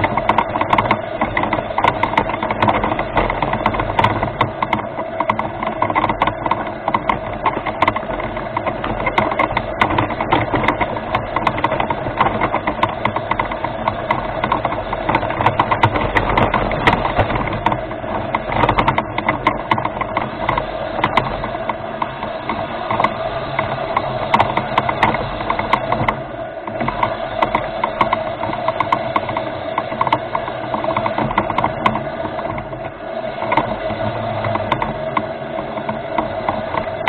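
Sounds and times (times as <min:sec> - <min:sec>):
chassis clicking and rattling: 0:00.0 - 0:37.0
motors and gears whining: 0:00.0 - 0:37.0.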